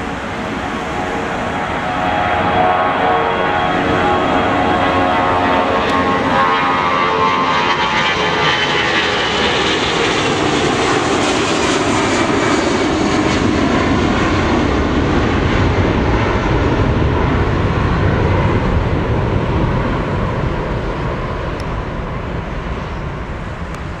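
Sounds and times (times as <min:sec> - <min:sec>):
jet engine roar: 0:00.0 - 0:24.0
jet engines whining: 0:00.0 - 0:24.0.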